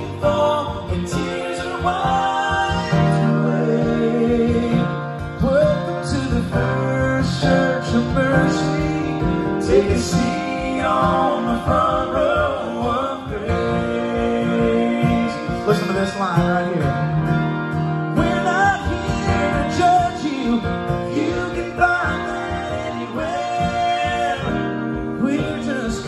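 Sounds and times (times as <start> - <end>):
man singing: 0.0 - 17.4, 18.1 - 26.0
acoustic guitars strumming: 0.0 - 26.0.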